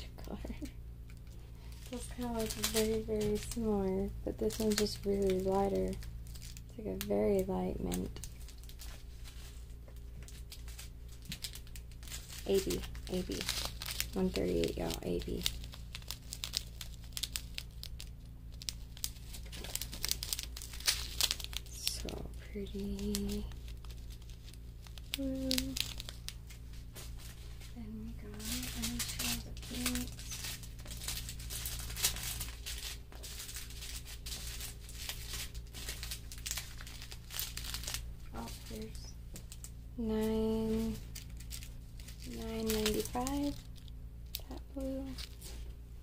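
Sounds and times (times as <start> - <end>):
plastic bags crinkling: 0.0 - 45.9
low steady hum: 0.0 - 46.0.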